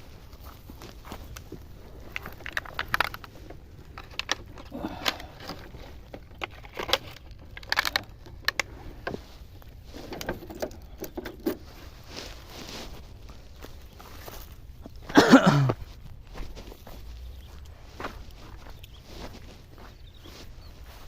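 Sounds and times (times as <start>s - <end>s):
footsteps crunching on dirt path: 0.0s - 21.0s
gear clicking and rustling: 0.0s - 21.0s.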